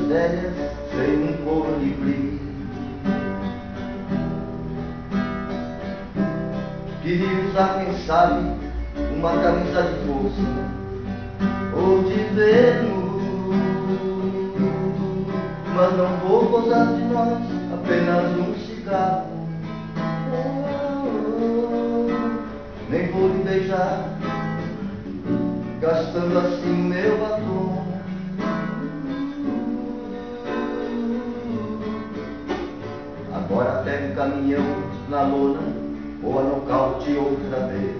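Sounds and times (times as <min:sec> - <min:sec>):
man singing: 0:00.0 - 0:03.5, 0:06.9 - 0:24.9, 0:25.7 - 0:37.9
acoustic guitar strumming: 0:00.0 - 0:37.9.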